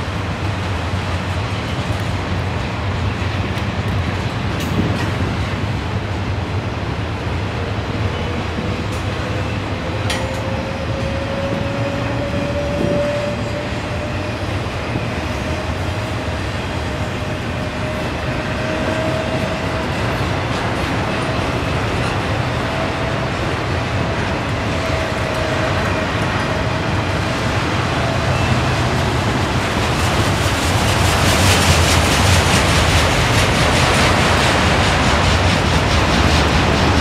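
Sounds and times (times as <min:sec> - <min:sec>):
freight train rumbling: 0:00.0 - 0:37.0.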